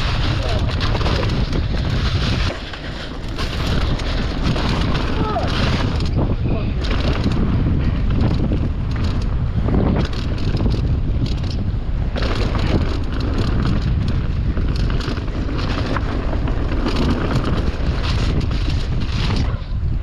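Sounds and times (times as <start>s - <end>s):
bike rattling and clattering: 0.0s - 20.0s
wind rushing over microphone: 0.0s - 20.0s.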